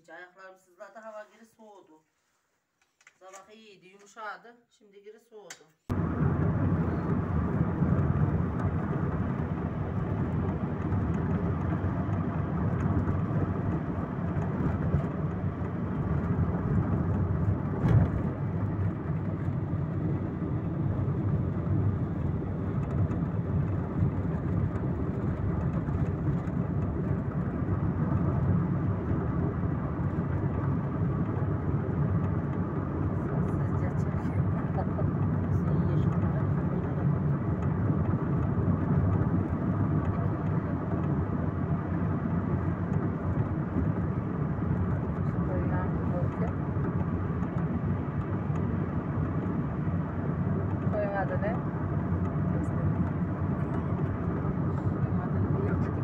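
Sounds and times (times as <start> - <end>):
road and engine noise in car: 5.9 - 56.0.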